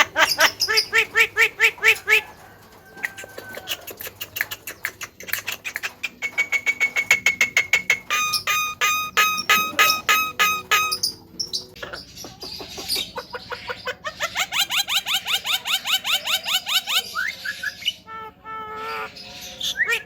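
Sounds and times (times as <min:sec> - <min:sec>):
myna calling and chattering: 0:00.0 - 0:20.0.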